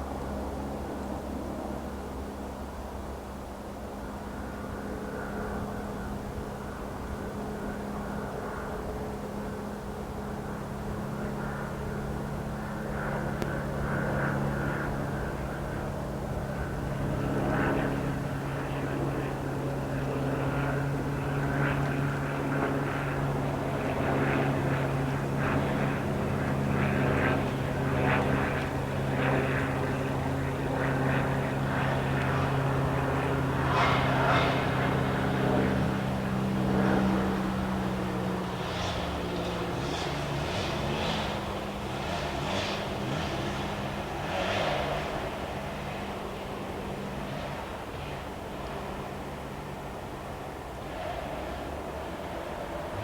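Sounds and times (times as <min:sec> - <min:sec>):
propeller aircraft flying over: 0:00.0 - 0:53.0.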